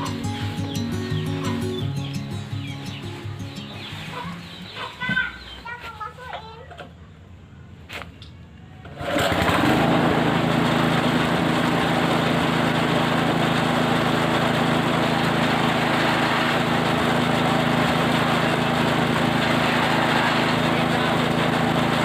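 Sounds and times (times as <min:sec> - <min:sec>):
small engine running: 0:00.0 - 0:04.6, 0:08.9 - 0:22.0.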